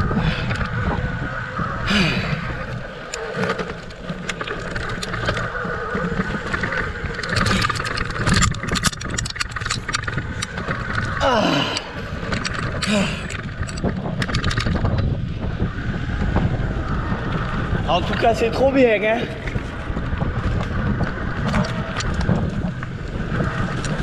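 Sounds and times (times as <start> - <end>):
bike rattling over stones: 0.0 - 24.0
tyre noise: 0.0 - 24.0
wind rumble on microphone: 0.0 - 24.0.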